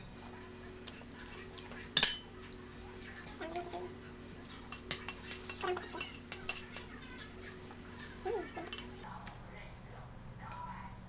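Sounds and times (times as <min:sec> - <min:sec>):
cutlery clinking against bowl: 0:00.2 - 0:09.1.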